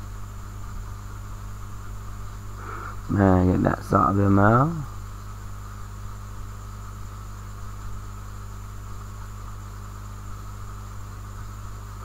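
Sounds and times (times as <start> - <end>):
low electrical hum: 0.0 - 12.0
thin high whine and hiss: 0.0 - 12.0.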